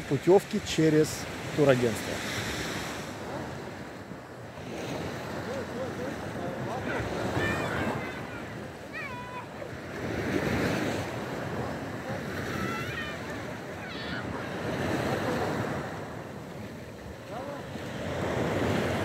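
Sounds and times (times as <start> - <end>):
small waves washing on beach: 0.0 - 19.0.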